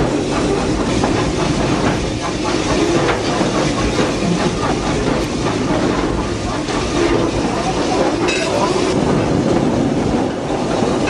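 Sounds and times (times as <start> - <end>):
steam train rumble and hiss: 0.0 - 11.0
wheels clicking over rails: 0.0 - 11.0.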